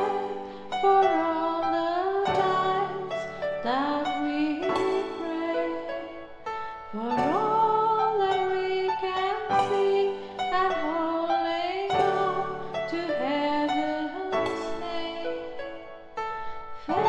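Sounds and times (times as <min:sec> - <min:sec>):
woman singing: 0:00.0 - 0:15.8, 0:16.8 - 0:17.0
instrumental backing: 0:00.0 - 0:17.0.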